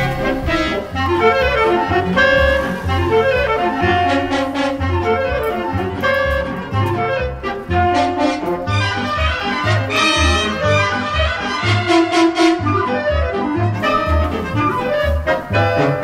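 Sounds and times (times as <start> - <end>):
jazzy tune with brass and reeds: 0.0 - 16.0.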